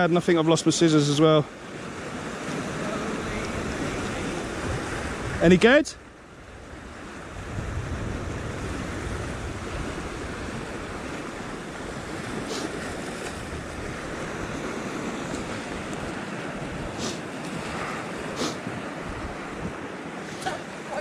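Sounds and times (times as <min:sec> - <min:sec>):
waves washing on rocky shore: 0:00.9 - 0:05.8, 0:06.4 - 0:21.0
wind buffeting microphone: 0:03.2 - 0:05.5, 0:06.4 - 0:21.0.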